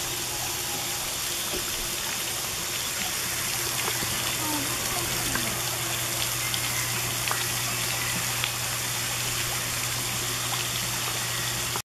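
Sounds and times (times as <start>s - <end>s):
fountain spray splashing on water: 0.0s - 11.8s
low steady hum: 0.0s - 11.8s.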